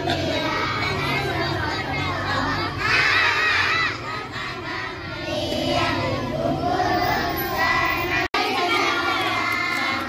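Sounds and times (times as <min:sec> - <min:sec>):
children shouting: 0:00.0 - 0:10.0
children singing together: 0:00.0 - 0:10.0.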